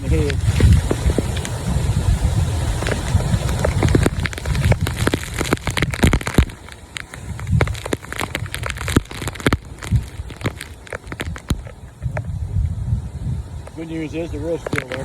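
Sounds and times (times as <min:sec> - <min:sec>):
sharp crackling ticks: 0:00.0 - 0:01.7, 0:02.5 - 0:12.8, 0:13.6 - 0:15.0
wind gusting against microphone: 0:00.0 - 0:15.0.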